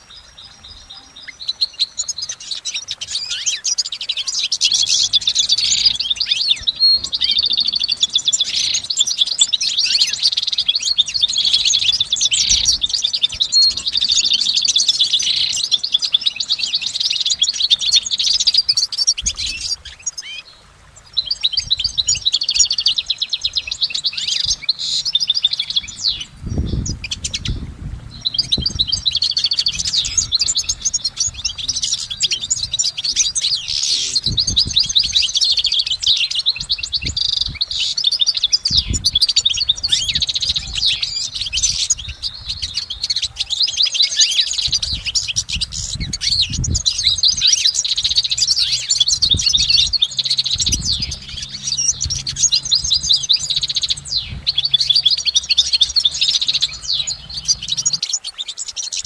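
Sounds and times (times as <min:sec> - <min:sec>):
finch twittering song: 0:00.0 - 0:59.0.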